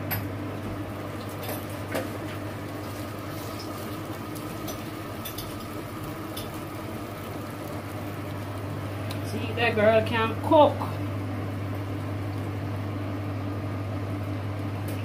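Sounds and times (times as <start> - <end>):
water simmering in a frying pan: 0.5 - 14.6.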